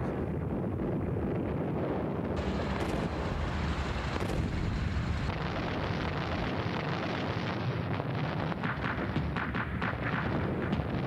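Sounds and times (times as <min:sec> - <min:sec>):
artillery fire rumble: 0:00.0 - 0:11.0.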